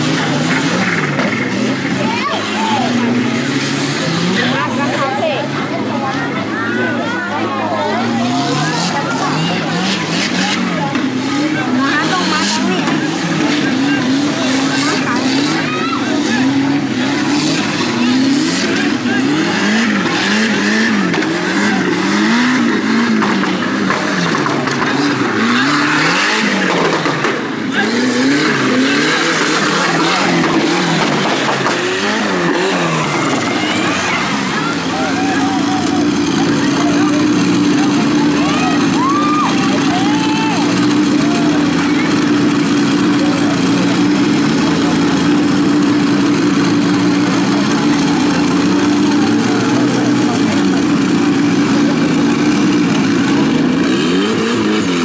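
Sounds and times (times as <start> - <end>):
buggy engine revving: 0.0 - 55.0.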